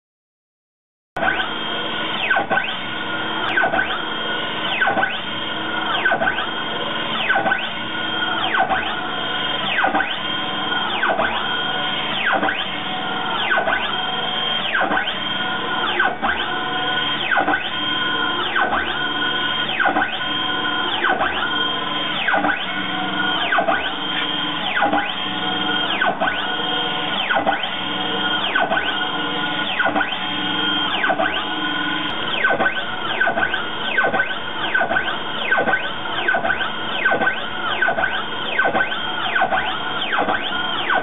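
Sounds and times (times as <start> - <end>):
stepper motors whining: 1.2 - 41.0.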